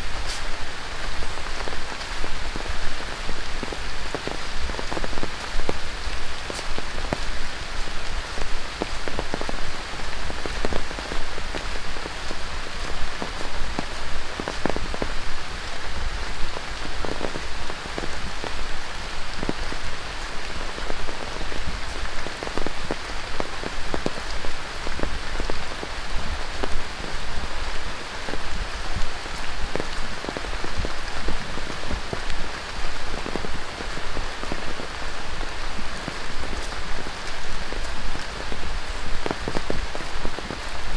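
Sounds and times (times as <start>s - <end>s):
rain on foliage: 0.0s - 40.9s
raindrops striking close by: 0.0s - 40.9s.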